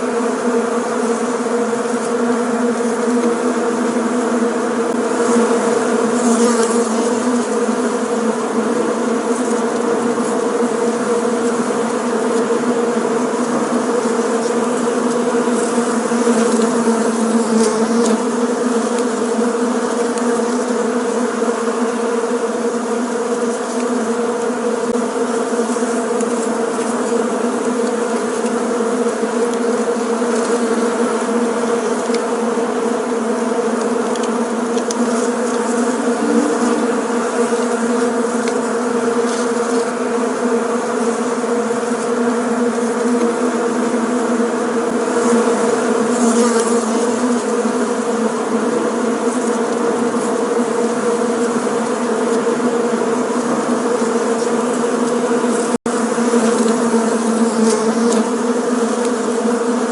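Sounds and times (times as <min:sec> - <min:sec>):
bees buzzing in a swarm: 0:00.0 - 0:59.9.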